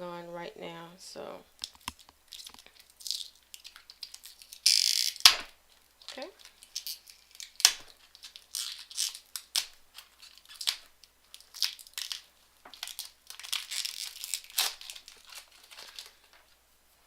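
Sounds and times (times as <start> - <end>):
packaging crinkling and rustling: 1.6 - 16.6.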